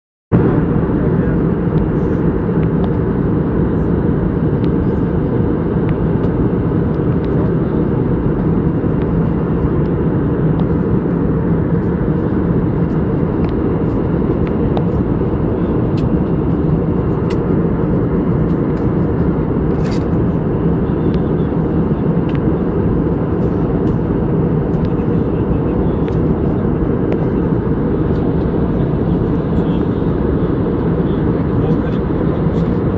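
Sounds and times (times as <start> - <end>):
airliner engines rumbling: 0.3 - 32.9
steady low hum: 0.3 - 32.9.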